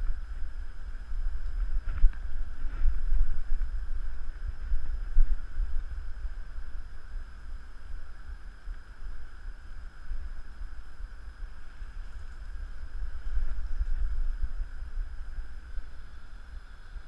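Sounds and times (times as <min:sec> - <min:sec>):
faint steady hiss: 0:00.0 - 0:17.0
wind rumble on microphone: 0:00.0 - 0:17.0.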